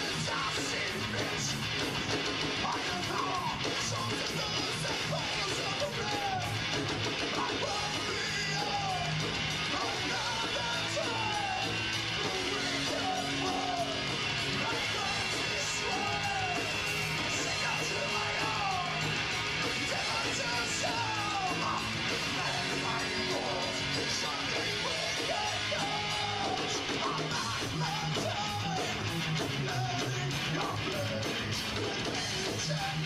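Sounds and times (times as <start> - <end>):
heavy metal band playing: 0.0 - 33.0
man yelling vocals: 2.7 - 6.6, 7.4 - 19.1, 19.8 - 31.2.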